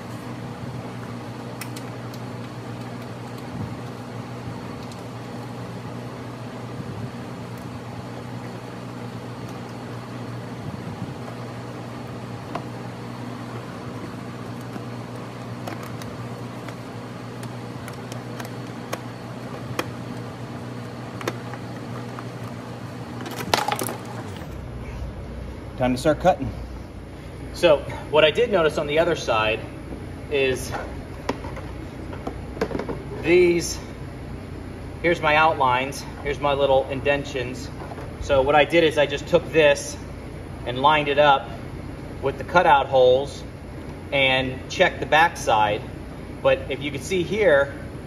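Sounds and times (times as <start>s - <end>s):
mechanical hum: 0.0s - 48.0s.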